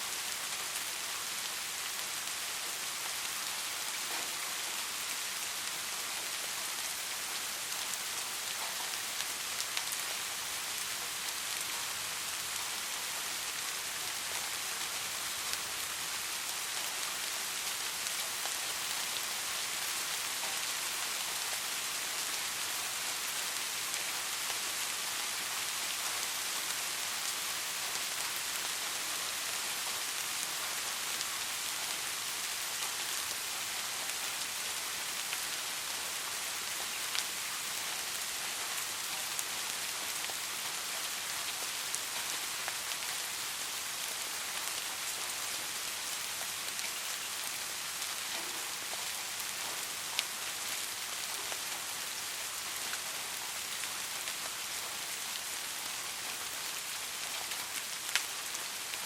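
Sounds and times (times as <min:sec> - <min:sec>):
soft rain falling: 0:00.0 - 0:59.0.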